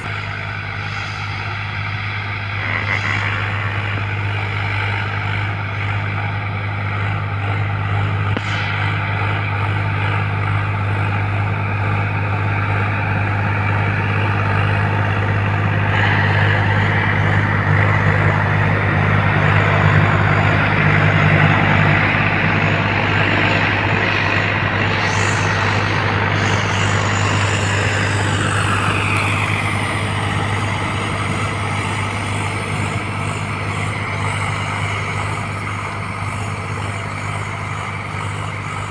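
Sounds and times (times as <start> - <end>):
high-pitched whine: 0.0 - 38.9
tractor diesel engine under load: 0.0 - 38.9.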